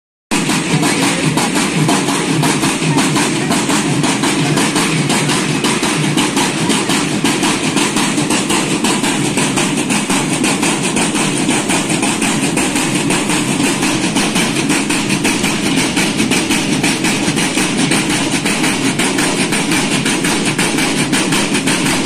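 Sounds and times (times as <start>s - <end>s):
marching drum line: 0.3s - 22.0s.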